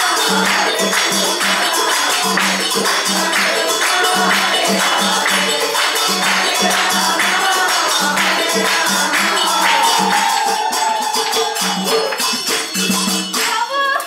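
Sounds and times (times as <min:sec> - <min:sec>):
drum beat: 0:00.0 - 0:13.6
jingling metal percussion: 0:00.0 - 0:14.0.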